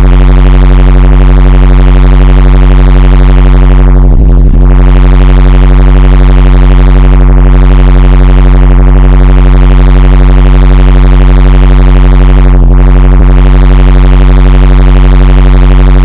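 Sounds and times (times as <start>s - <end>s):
synthesizer drone with heavy bass: 0.0s - 16.0s.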